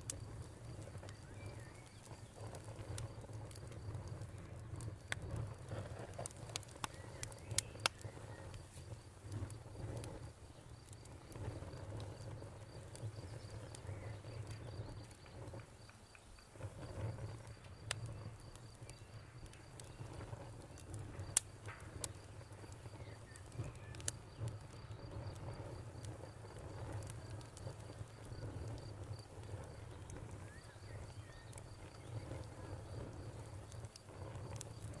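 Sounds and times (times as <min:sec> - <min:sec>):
campfire crackling and popping: 0:00.0 - 0:35.0
cricket chirping: 0:00.1 - 0:05.8, 0:06.8 - 0:21.4, 0:22.0 - 0:35.0.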